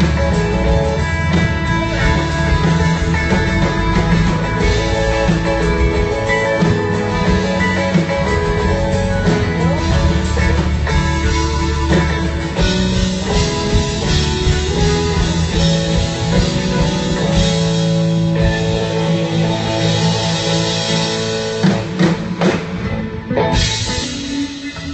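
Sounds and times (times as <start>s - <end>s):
live country-rock band: 0.0s - 24.9s.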